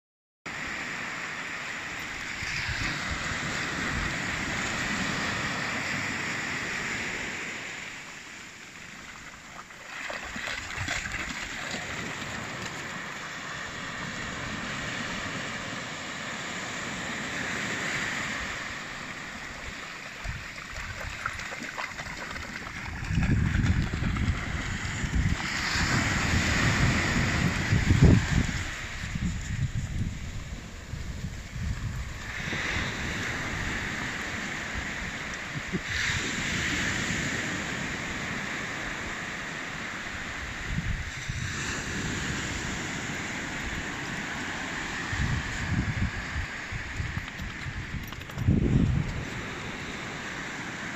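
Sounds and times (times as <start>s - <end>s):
surf washing up a beach: 0.5s - 50.9s.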